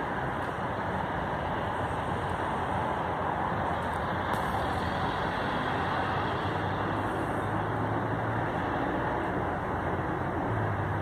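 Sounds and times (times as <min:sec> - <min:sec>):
low engine hum: 0:00.0 - 0:11.0
road traffic noise: 0:00.0 - 0:11.0.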